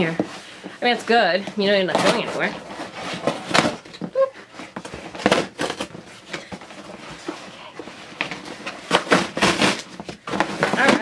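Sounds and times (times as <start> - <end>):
cardboard and tape ripping: 1.8 - 11.0.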